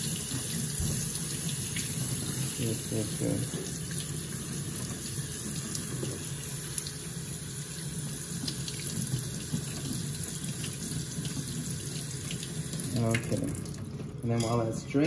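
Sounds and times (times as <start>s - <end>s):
faucet water splashing into sink: 0.0s - 14.4s.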